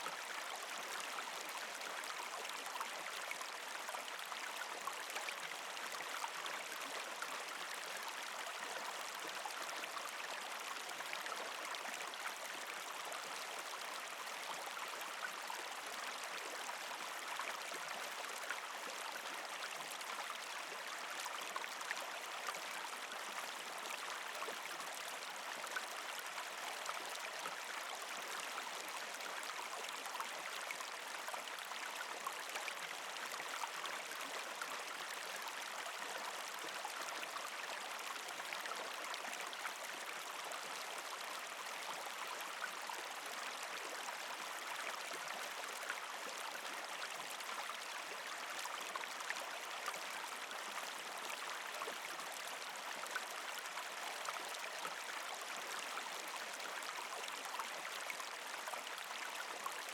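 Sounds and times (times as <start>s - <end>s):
creek water gurgling over rocks: 0.0s - 59.9s.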